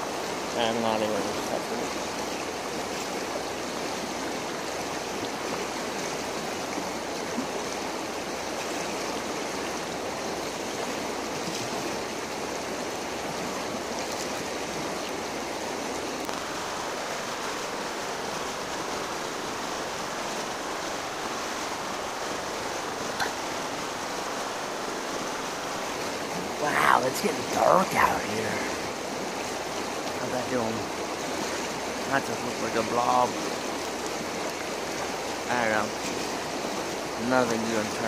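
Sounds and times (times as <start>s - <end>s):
river water flowing: 0.0s - 38.0s.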